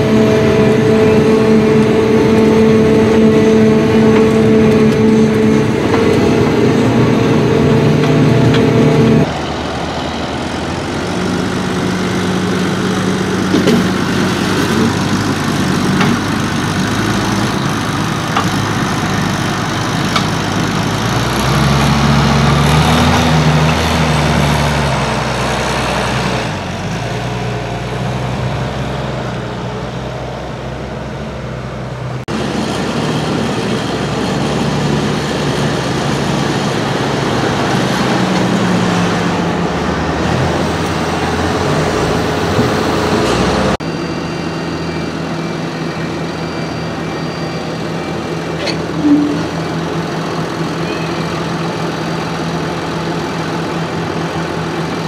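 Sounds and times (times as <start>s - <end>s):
harvester engine at high revs: 0.0s - 55.0s
tractor diesel engine: 0.0s - 55.0s.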